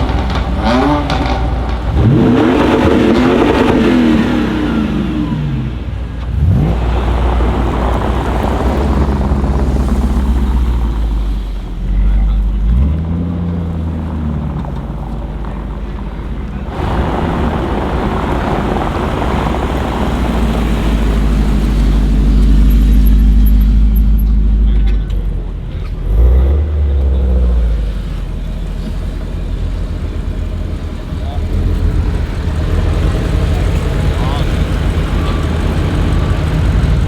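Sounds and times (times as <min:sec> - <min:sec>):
car engine rev blips: 0:00.0 - 0:37.0
deep engine burble: 0:00.0 - 0:37.0.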